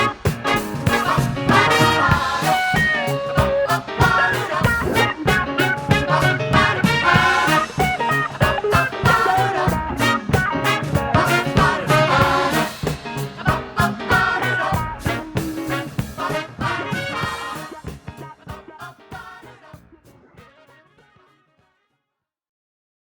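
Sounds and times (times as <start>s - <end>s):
pop band playing: 0.0s - 20.1s.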